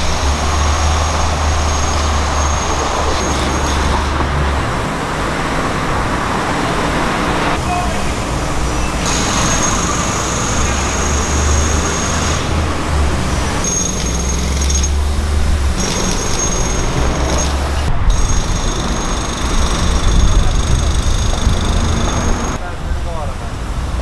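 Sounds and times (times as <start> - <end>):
passing cars and buses rumbling: 0.0 - 24.0.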